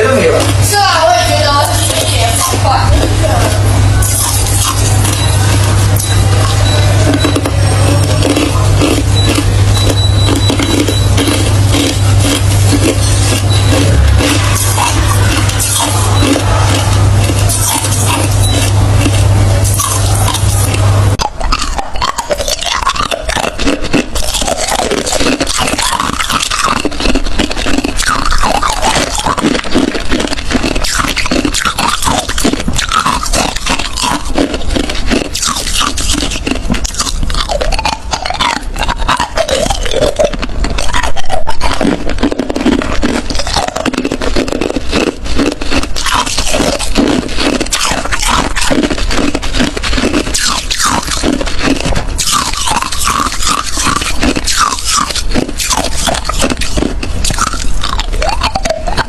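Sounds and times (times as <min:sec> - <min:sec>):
chewing crushed ice: 0:00.0 - 0:59.0.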